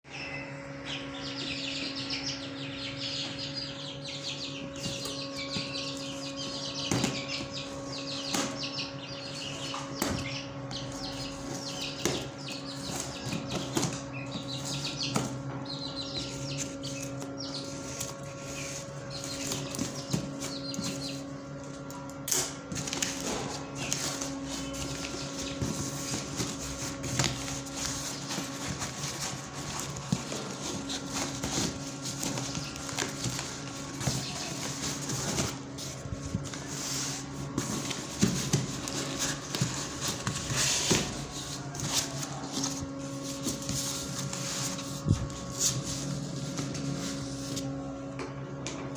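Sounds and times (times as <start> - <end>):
low electrical hum: 0.0 - 48.9
small birds chirping: 0.1 - 47.6.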